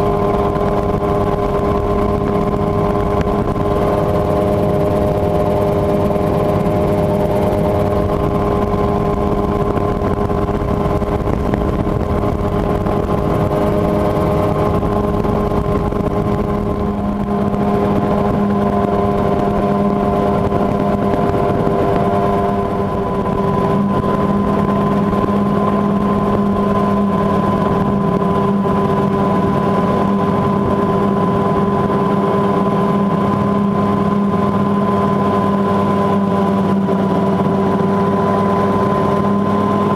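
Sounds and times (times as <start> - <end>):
helicopter engine drone: 0.0 - 39.9.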